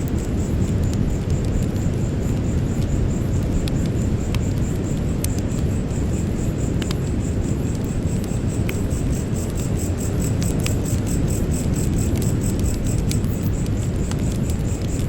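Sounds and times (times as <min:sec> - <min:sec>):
campfire crackling: 0:00.0 - 0:15.0
cricket chirping: 0:00.0 - 0:15.0.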